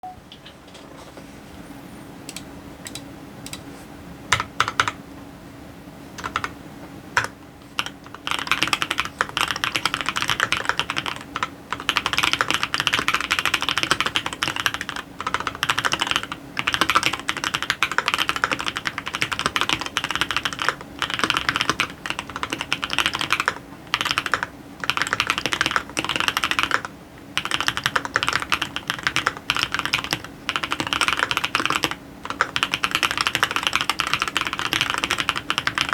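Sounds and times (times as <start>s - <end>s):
mechanical keyboard typing: 2.3s - 3.6s, 4.3s - 5.0s, 6.2s - 6.6s, 7.2s - 35.9s.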